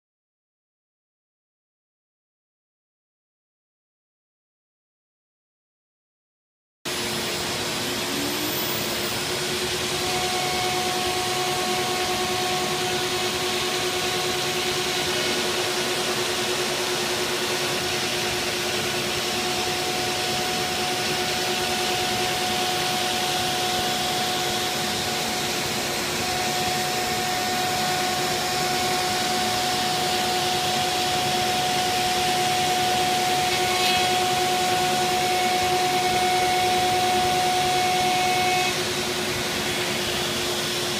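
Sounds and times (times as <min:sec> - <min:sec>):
higher machine tone: 0:06.9 - 0:40.9
router spindle whine: 0:06.9 - 0:40.9.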